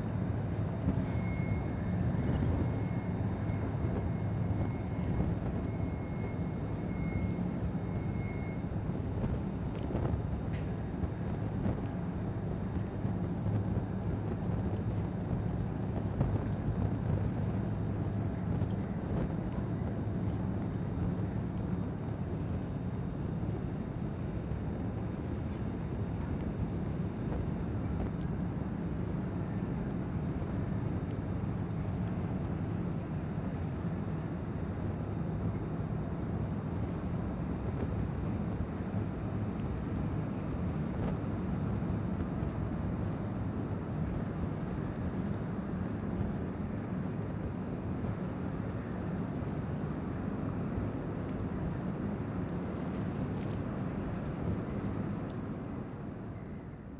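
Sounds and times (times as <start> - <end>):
low outdoor rumble: 0.0 - 56.9.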